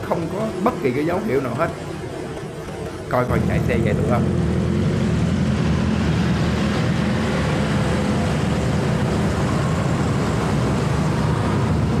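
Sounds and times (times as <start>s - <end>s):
motorcycle engine and road noise: 0.0s - 12.0s.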